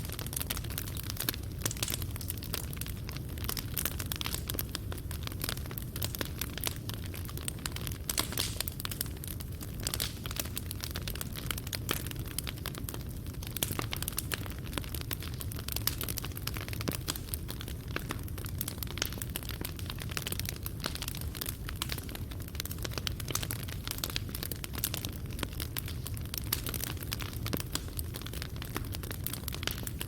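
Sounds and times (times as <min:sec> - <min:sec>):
fire crackling and popping: 0:00.0 - 0:30.0
low fire rumble: 0:00.0 - 0:30.0.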